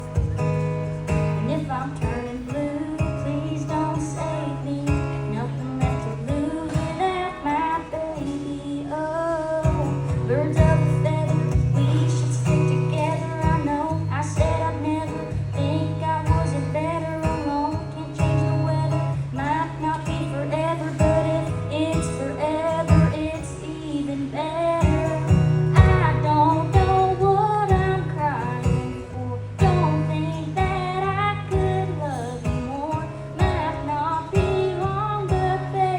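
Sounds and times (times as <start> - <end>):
strummed acoustic guitar: 0.0 - 35.9
woman singing: 0.0 - 35.9.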